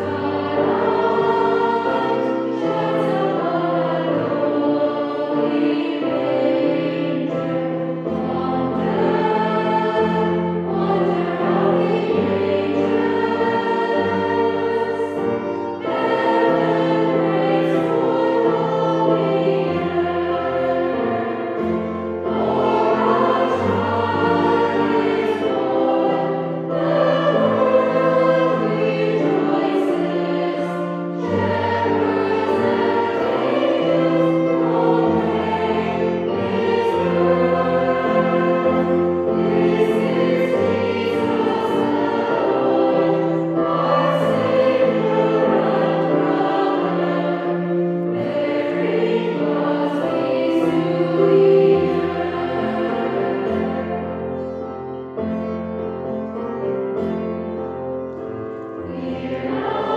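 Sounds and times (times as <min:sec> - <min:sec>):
women's choir singing: 0:00.0 - 0:55.4, 0:56.8 - 0:59.9
keyboard: 0:00.0 - 0:59.9
violin: 0:00.0 - 0:59.9.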